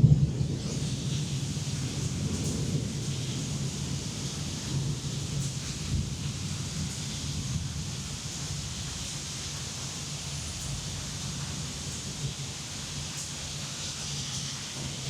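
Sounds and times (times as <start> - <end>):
low rumble of thunder: 0.0 - 13.6
steady rain hiss: 0.0 - 15.0.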